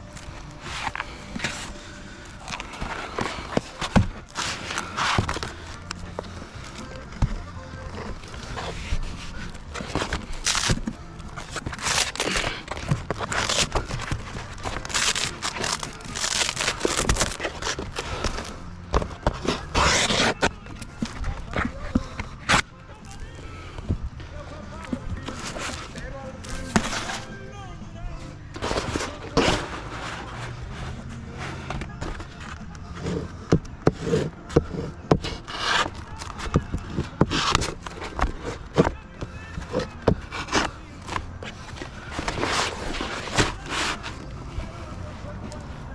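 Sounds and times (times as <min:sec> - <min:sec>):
scraping and tearing shingles: 0:00.2 - 0:23.8, 0:24.8 - 0:27.3, 0:28.5 - 0:45.6.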